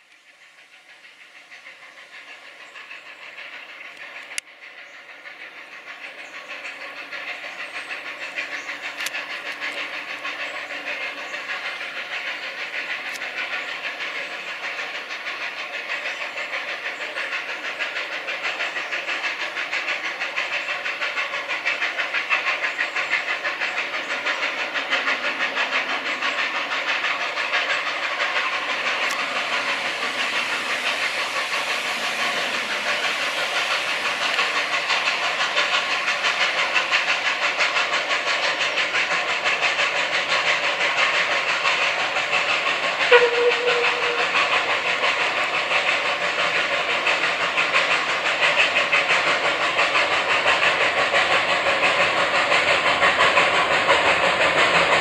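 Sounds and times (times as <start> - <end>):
steam locomotive exhaust beats and hiss: 0.0 - 55.0.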